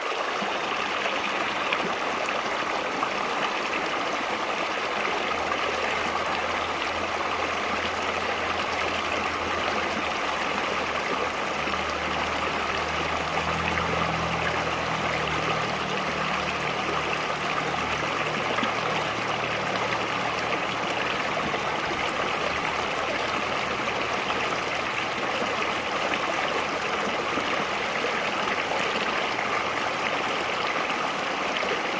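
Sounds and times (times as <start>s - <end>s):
river water babbling: 0.0s - 31.9s.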